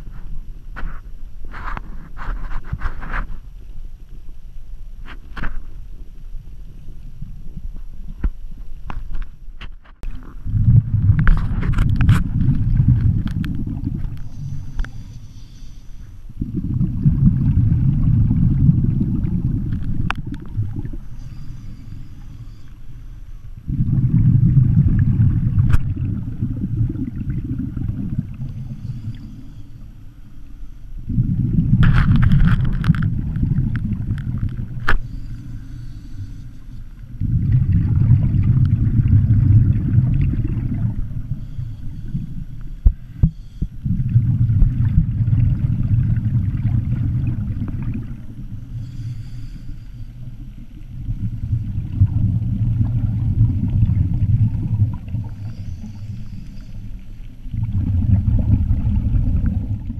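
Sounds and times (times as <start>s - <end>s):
underwater rumble of moving water: 0.0s - 59.9s.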